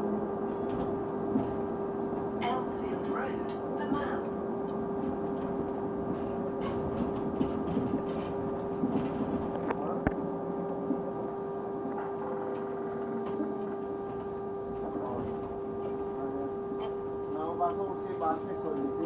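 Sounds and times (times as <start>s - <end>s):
bus engine hum: 0.0s - 19.0s
bus rumbling running noise: 0.0s - 19.0s.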